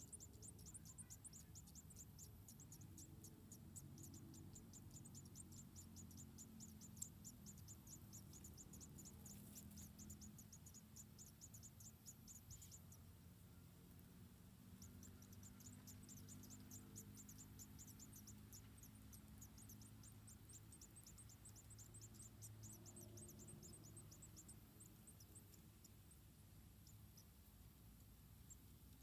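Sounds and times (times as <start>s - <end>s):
faint cricket chirping: 0.0s - 29.0s.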